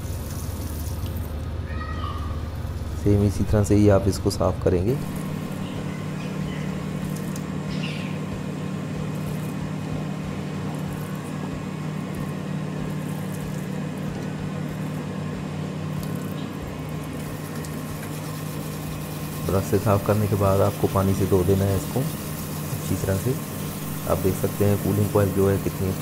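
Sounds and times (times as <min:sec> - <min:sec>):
water running from garden hose: 0:00.0 - 0:01.4, 0:04.8 - 0:15.2, 0:15.8 - 0:26.0
low steady hum: 0:00.0 - 0:26.0.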